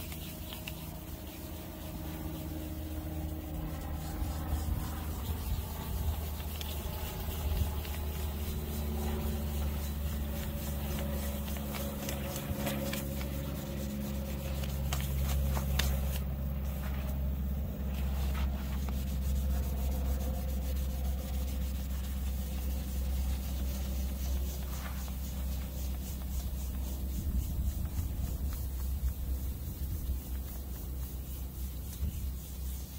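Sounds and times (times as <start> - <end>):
sandpaper scraping brass: 0.0 - 17.2, 17.9 - 32.9
low mechanical hum: 0.0 - 32.9.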